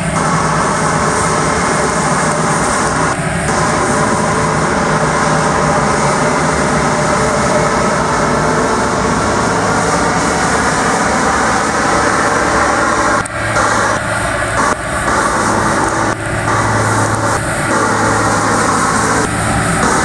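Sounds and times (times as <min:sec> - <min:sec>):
constant low hum: 0:00.0 - 0:20.0
sweeper truck running: 0:00.0 - 0:20.0.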